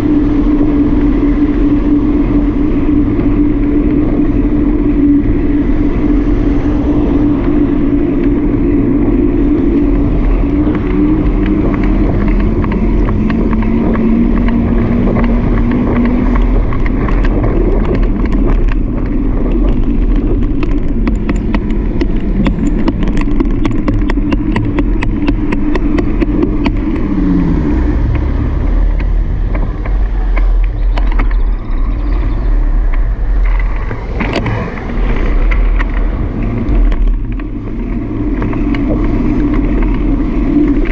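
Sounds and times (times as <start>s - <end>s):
humming tone: 0.0s - 40.9s
road rumble: 0.0s - 40.9s
wind: 0.0s - 40.9s.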